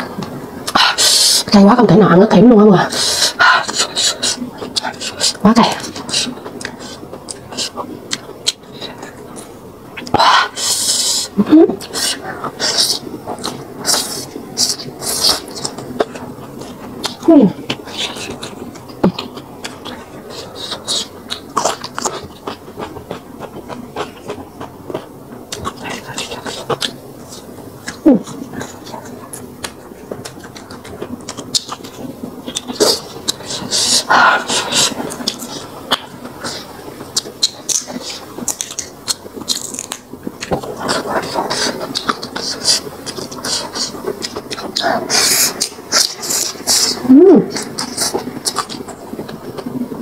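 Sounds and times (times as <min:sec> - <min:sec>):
person chewing noodles: 0:02.9 - 0:50.0
small crunches of eating: 0:02.9 - 0:50.0.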